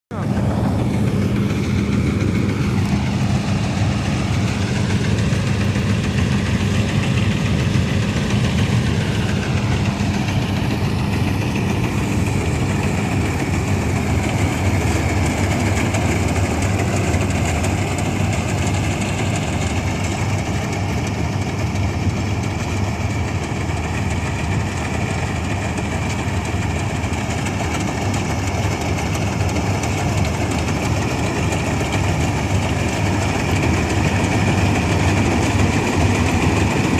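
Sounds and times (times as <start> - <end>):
combine harvester humming: 0.1 - 36.9.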